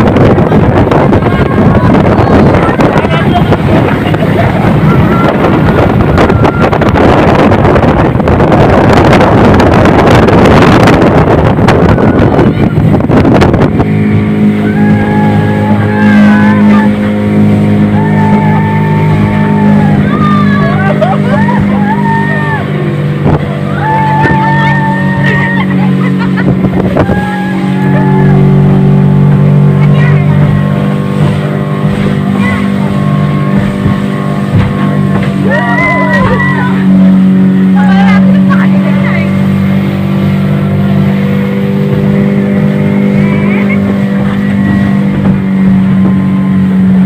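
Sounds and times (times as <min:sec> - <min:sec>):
melody over low drone: 0:00.0 - 0:47.0
outboard engine running: 0:00.0 - 0:47.0
water rushing past hull: 0:00.0 - 0:47.0
wind buffeting microphone: 0:00.0 - 0:47.0.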